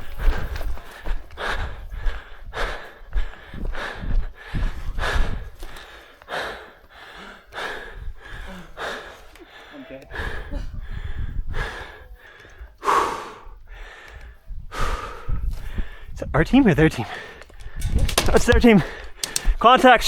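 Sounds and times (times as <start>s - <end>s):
person breathing hard: 0.0s - 16.2s, 17.0s - 18.2s, 18.8s - 19.6s.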